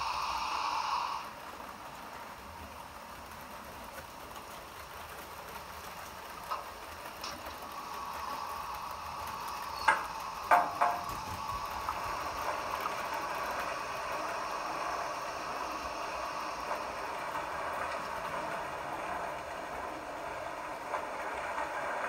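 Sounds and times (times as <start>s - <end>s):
model train humming: 0.0s - 22.0s
wheels clicking over rail joints: 1.3s - 22.0s.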